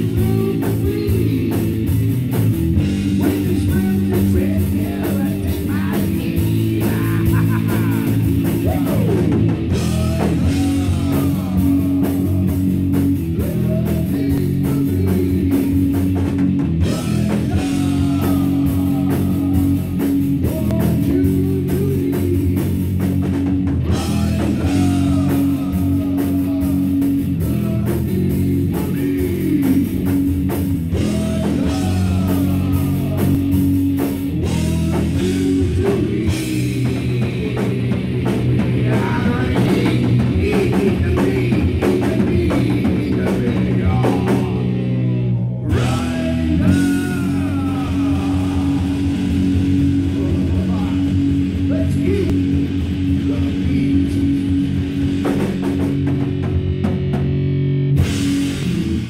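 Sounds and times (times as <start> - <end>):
drum kit beat: 0.0 - 45.0, 45.7 - 59.0
rock guitar: 0.0 - 59.0.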